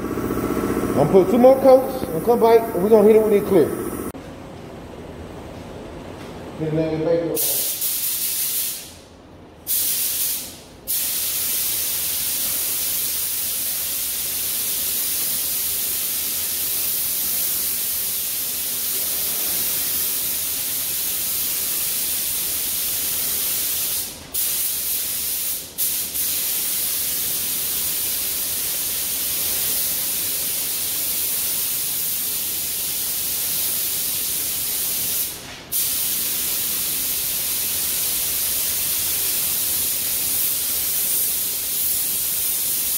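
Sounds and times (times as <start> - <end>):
compressed air hissing from spray gun: 7.4 - 9.1, 9.7 - 42.9.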